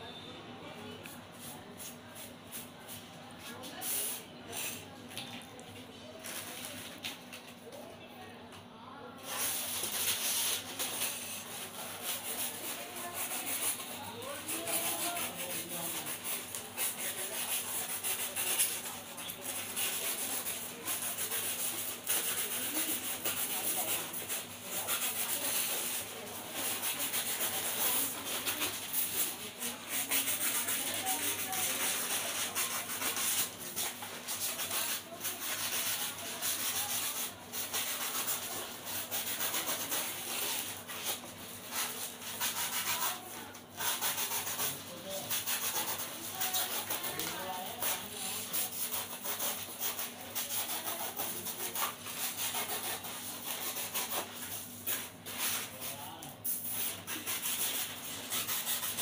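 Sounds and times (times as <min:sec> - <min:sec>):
scraping on sign board: 0:09.2 - 0:59.0.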